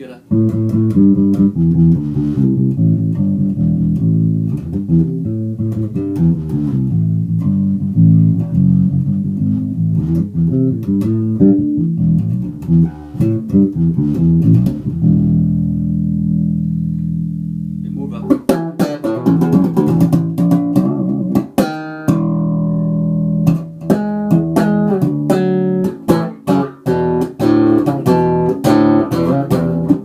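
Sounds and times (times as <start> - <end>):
plucked bass guitar notes: 0.2 - 30.0.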